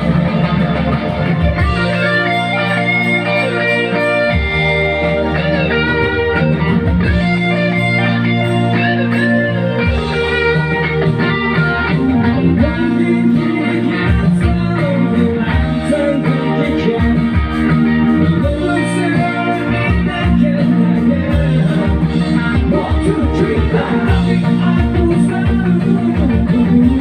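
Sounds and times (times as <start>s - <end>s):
electric guitar melody: 0.0s - 27.0s
music with low bass: 0.0s - 27.0s.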